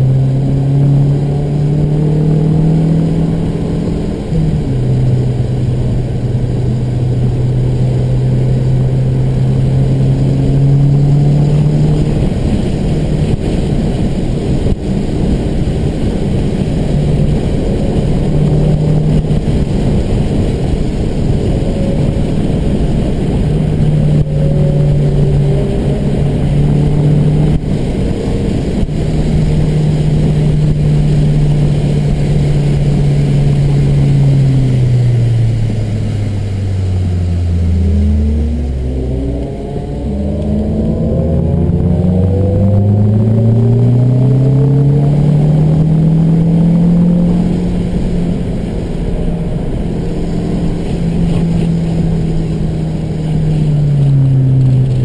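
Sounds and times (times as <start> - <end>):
car engine running hard: 0.0 - 55.0
road and tyre noise: 0.0 - 55.0.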